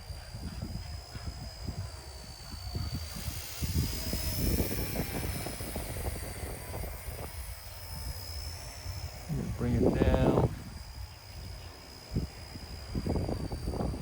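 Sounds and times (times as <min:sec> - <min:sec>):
model helicopter rotor whine: 0:00.0 - 0:14.0
wind rumbling on microphone: 0:00.0 - 0:14.0.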